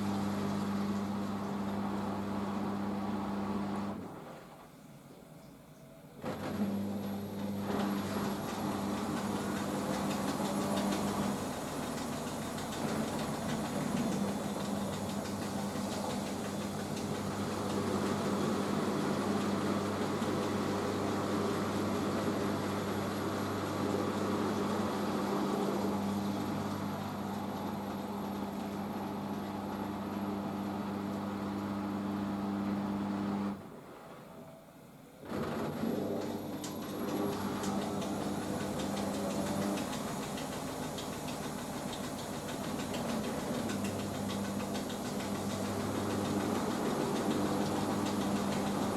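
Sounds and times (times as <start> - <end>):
washing machine spinning: 0.0 - 4.6, 6.2 - 48.9.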